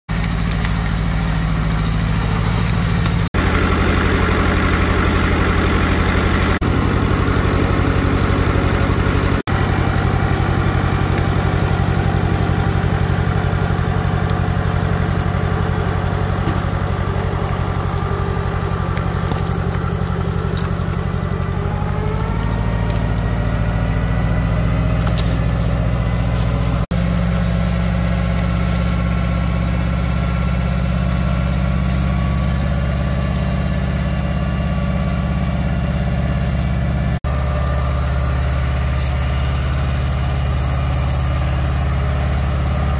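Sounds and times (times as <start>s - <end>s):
tractor engine under load: 0.1s - 42.9s.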